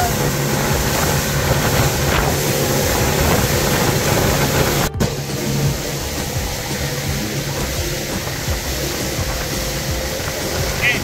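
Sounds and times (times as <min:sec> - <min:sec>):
outboard motor running: 0:00.0 - 0:11.0
rush of wind and water: 0:00.0 - 0:11.0.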